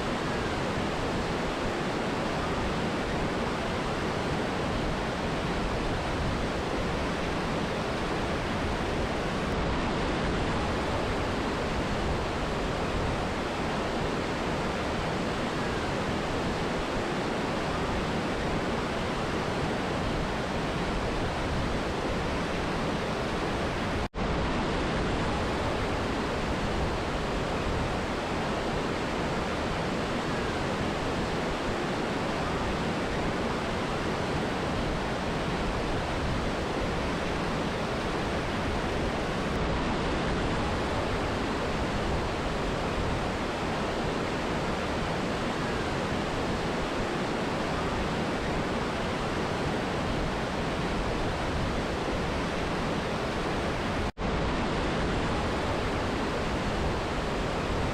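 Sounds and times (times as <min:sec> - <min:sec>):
river and waterfall rushing: 0:00.0 - 0:57.9.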